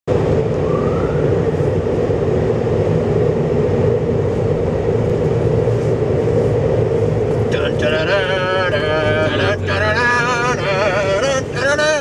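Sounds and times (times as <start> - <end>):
car wash machinery rushing: 0.1 - 12.0.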